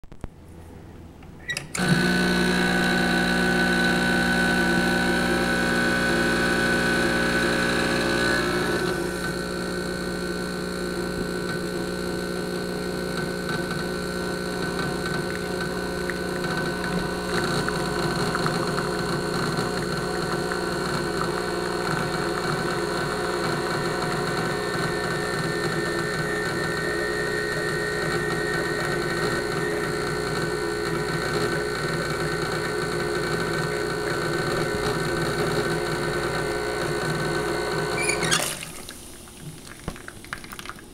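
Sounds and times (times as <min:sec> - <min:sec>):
espresso machine pump humming: 0:01.7 - 0:40.8.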